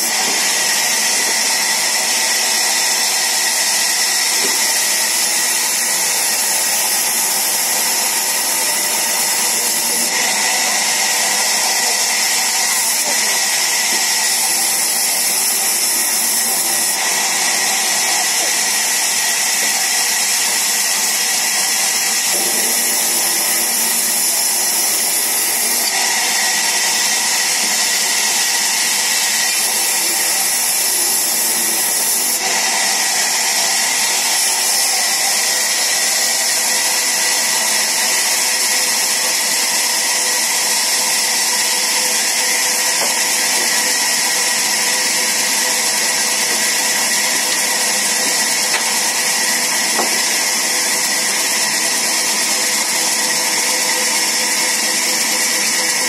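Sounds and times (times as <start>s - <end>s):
band saw cutting wood: 0.0s - 56.0s.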